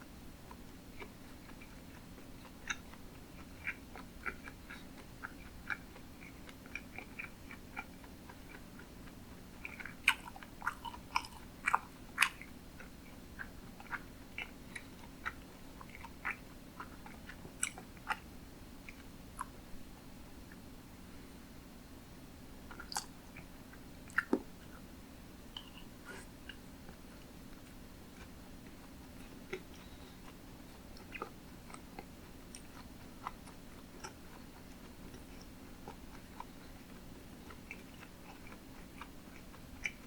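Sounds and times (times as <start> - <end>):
person chewing wet mouth clicks: 0.5 - 19.6, 22.6 - 24.8, 25.5 - 40.0.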